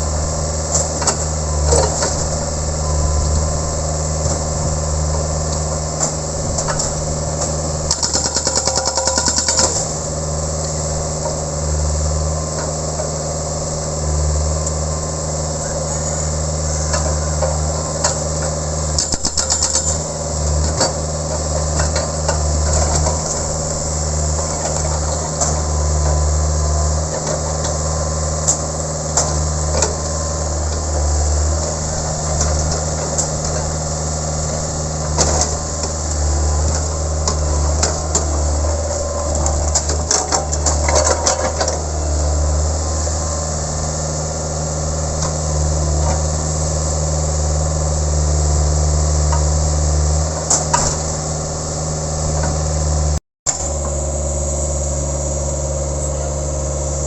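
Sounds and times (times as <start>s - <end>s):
diesel engine running: 0.0s - 57.0s
hydraulic breaker hammering: 0.0s - 57.0s.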